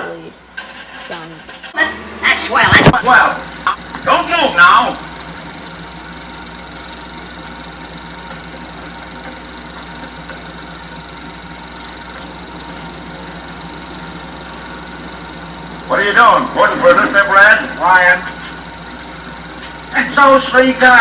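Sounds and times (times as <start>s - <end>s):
film projector whirring: 0.0s - 21.0s
steady hum: 0.0s - 21.0s.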